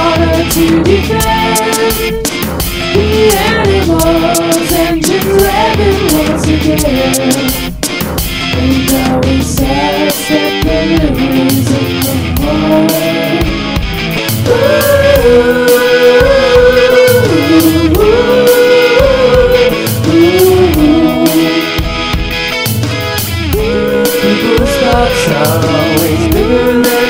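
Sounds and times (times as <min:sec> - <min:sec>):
rock band music: 0:00.0 - 0:27.0.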